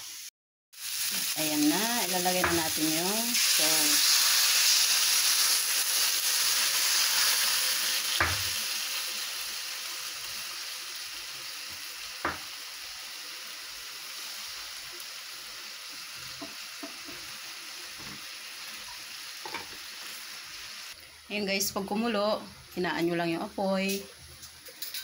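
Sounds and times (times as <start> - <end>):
sauce sizzling in a hot wok: 0.0 - 25.0.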